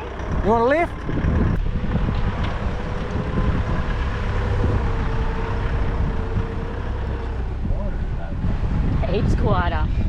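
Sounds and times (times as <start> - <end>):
vehicle engine and tyre rumble: 0.0 - 10.0.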